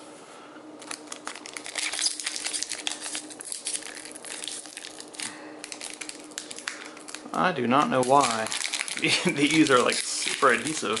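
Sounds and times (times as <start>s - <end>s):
foil wrapper crinkling: 0.8s - 11.0s.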